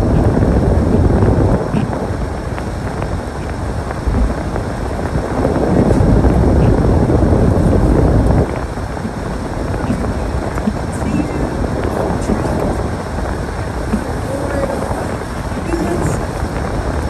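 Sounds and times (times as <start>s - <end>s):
storm wind on microphone: 0.0s - 17.0s.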